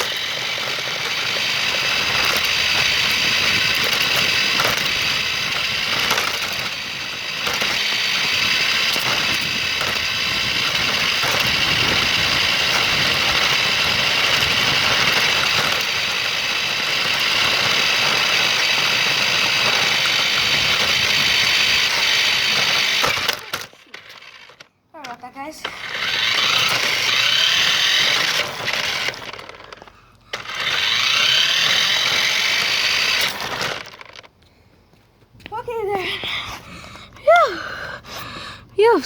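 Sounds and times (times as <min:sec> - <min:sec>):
toy car motor whining: 0:00.0 - 0:34.3, 0:35.6 - 0:39.0.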